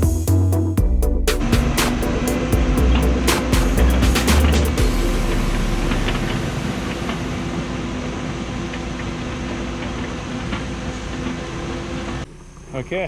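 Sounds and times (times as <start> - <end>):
excavator diesel engine running: 1.4 - 12.2.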